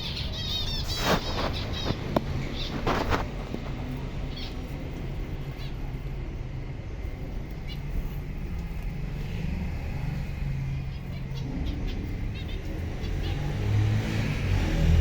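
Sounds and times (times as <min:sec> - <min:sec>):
finch chirps: 0:00.0 - 0:09.4, 0:10.6 - 0:14.4
steady low rumble: 0:00.1 - 0:13.5.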